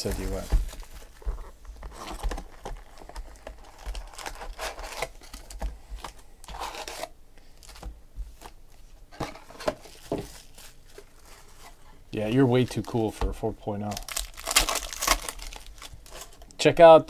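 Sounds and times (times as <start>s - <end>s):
plastic wrap crinkling and tearing: 0.0s - 7.8s, 9.8s - 13.2s, 13.8s - 16.5s
foil packs rustling: 0.0s - 7.9s, 9.3s - 16.4s.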